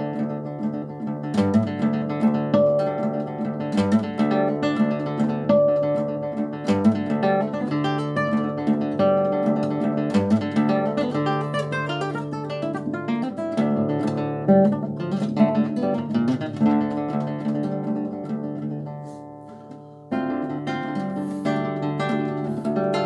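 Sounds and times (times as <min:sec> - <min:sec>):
classical guitar fingerpicking: 0:00.0 - 0:23.0.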